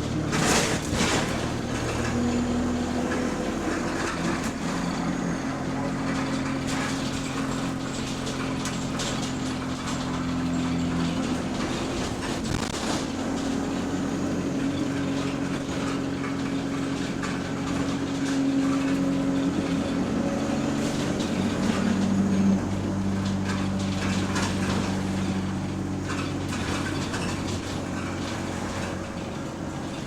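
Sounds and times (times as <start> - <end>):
bus body rattling: 0.0 - 30.0
bus engine humming: 0.0 - 30.0.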